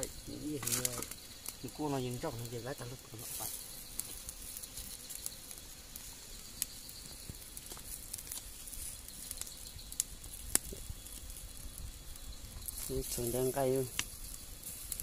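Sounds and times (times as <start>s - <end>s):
fire crackling and popping: 0.0s - 15.0s
wood fire hissing: 0.0s - 15.0s.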